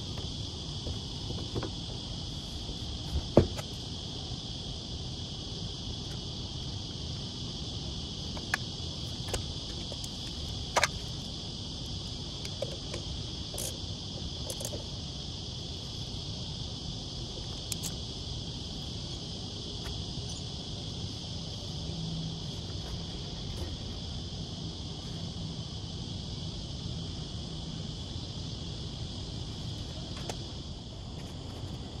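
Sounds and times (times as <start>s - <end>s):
high-pitched insect drone: 0.0s - 32.0s.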